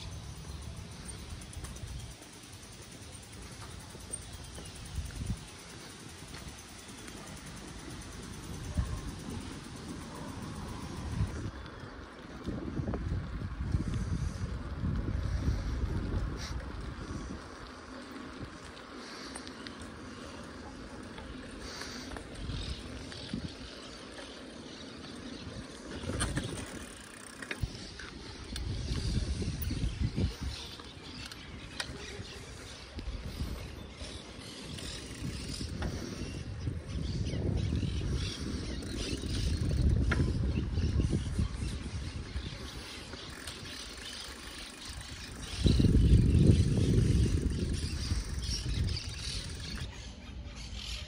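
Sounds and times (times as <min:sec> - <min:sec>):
bicycle tyre noise: 0:00.0 - 0:51.0
wind buffeting microphone: 0:00.0 - 0:51.0.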